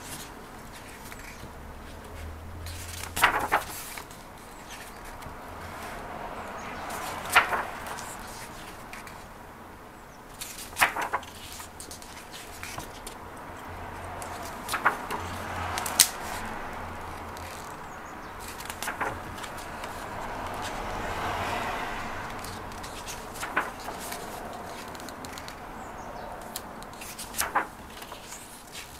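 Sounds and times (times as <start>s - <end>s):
book pages turning: 0.0s - 6.2s, 6.8s - 9.2s, 10.4s - 13.2s, 13.9s - 17.8s, 18.4s - 28.9s.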